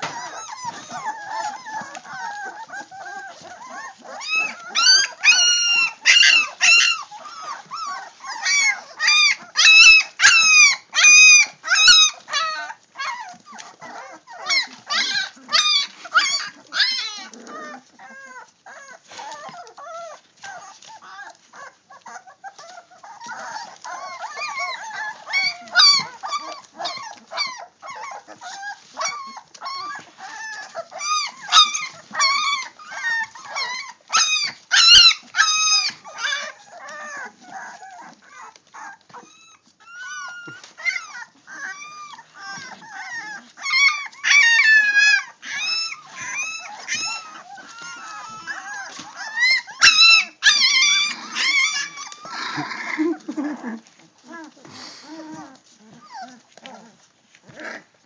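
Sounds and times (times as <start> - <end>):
puppies whining and crying: 0.0 - 58.0.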